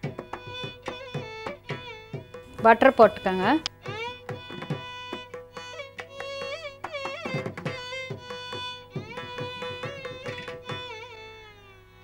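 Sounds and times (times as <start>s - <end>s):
hand drum strokes: 0.0s - 10.9s.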